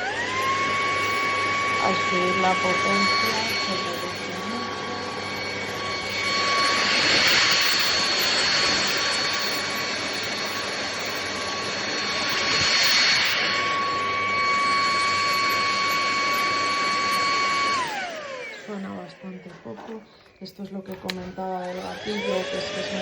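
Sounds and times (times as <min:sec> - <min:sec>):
vacuum cleaner motor whine: 0:00.0 - 0:23.0.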